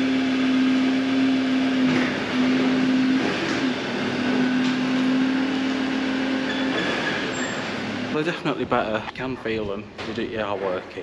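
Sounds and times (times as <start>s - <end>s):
truck drone: 0.0s - 11.0s.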